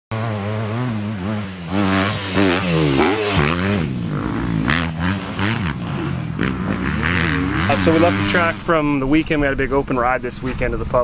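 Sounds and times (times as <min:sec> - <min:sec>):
dirt bike engines revving: 0:00.1 - 0:11.0.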